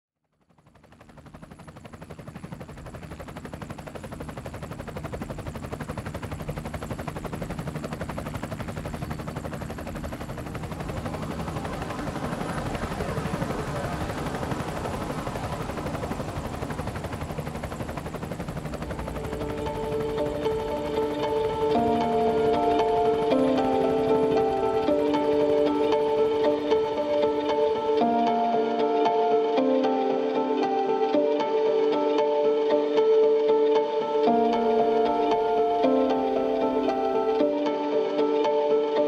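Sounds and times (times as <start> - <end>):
helicopter rotor beating: 0.3 - 38.3
music: 2.3 - 39.0.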